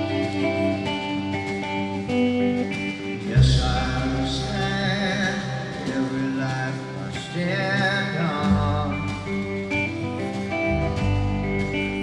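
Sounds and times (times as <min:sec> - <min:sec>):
bass guitar: 0:00.0 - 0:12.0
picked guitar notes: 0:00.0 - 0:12.0.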